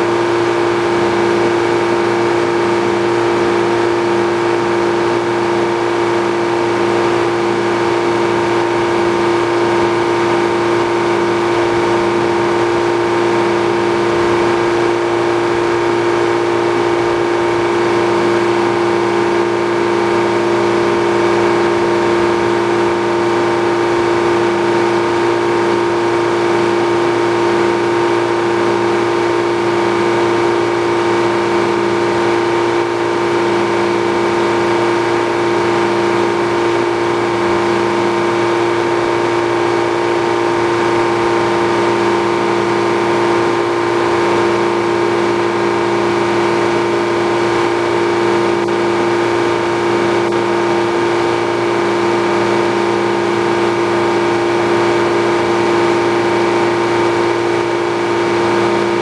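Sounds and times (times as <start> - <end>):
machinery whine and hum: 0.0 - 59.0.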